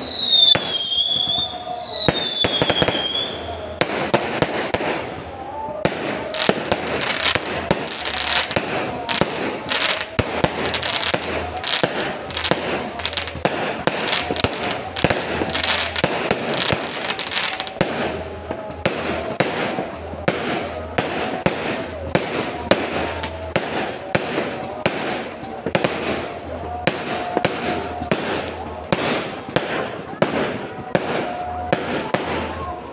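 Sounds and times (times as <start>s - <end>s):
fireworks bangs: 0.0s - 32.9s
fireworks crackling: 0.0s - 32.9s.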